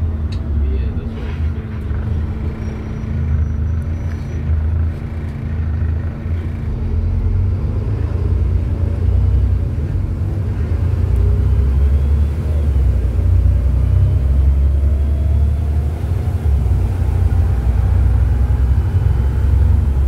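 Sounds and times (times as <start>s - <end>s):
bus diesel engine rumbling: 0.0s - 20.0s.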